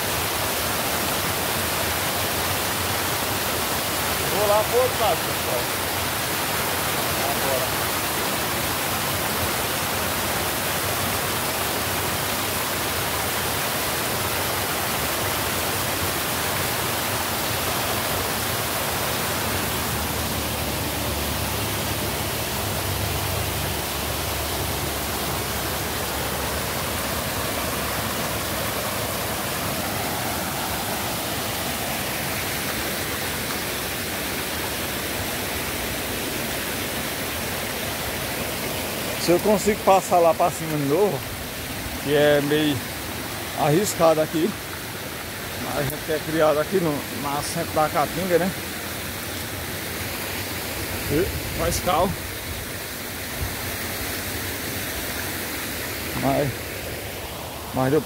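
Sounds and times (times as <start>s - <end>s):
water rushing over dam: 0.0s - 58.0s.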